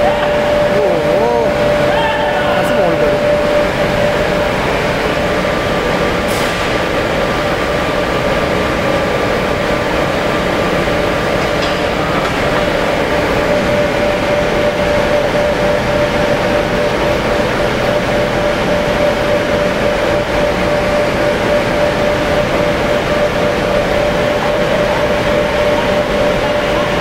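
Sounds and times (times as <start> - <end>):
furnace burner flame roaring: 0.0 - 27.0.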